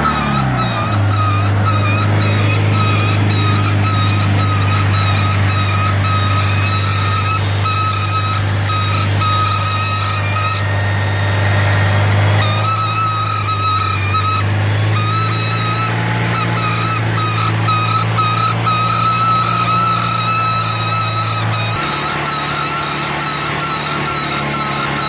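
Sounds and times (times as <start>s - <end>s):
wheel hub squeak: 0.0s - 25.0s.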